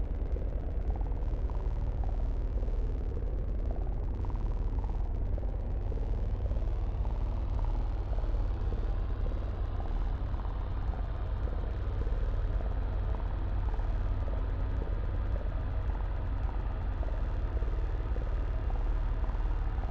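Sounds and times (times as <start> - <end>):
low rumble with wavering tones: 0.0 - 19.9.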